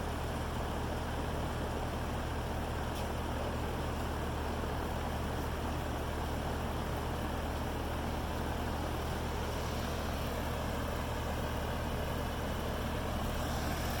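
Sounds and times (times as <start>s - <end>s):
hvac system humming: 0.0s - 14.0s.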